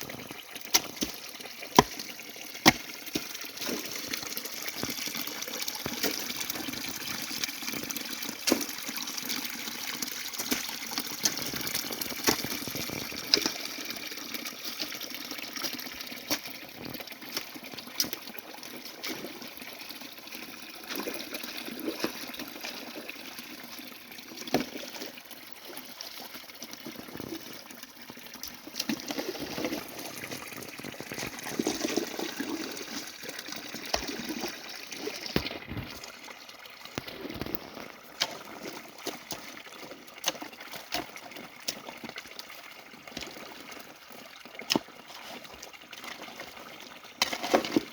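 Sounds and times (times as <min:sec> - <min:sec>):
stream running: 0:00.0 - 0:47.9.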